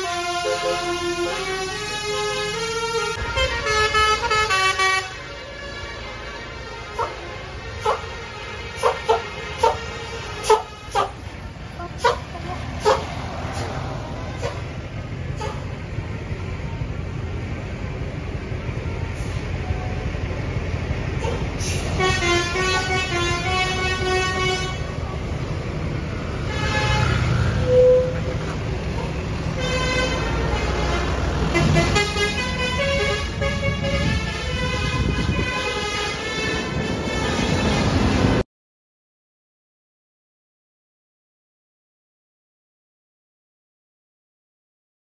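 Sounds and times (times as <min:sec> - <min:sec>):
bus diesel engines rumbling: 0:00.0 - 0:38.4.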